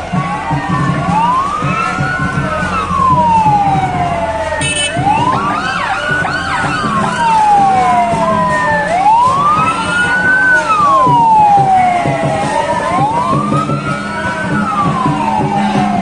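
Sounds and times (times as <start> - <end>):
ambulance siren wailing: 0.0 - 16.0.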